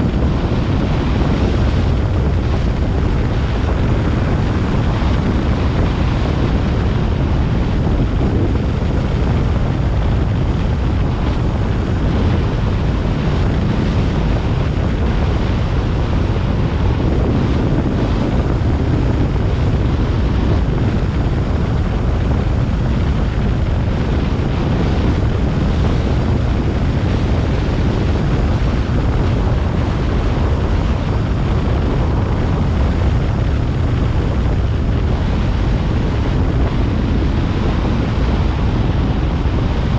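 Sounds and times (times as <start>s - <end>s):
car road and engine rumble: 0.0s - 39.9s
wind noise on microphone: 0.0s - 39.9s.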